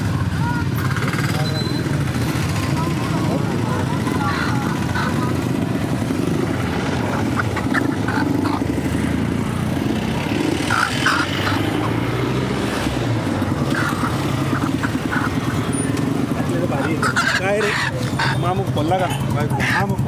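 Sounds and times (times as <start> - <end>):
low rumble of vehicles: 0.0 - 20.0
motorcycle-like engine noise: 0.0 - 20.0.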